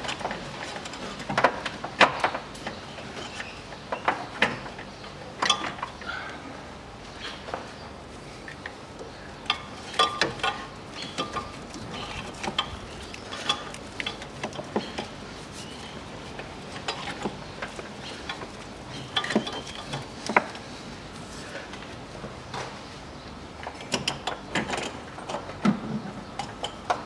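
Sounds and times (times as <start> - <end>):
engine parts clicking and scraping: 0.0 - 6.1, 8.2 - 22.8, 23.6 - 27.0.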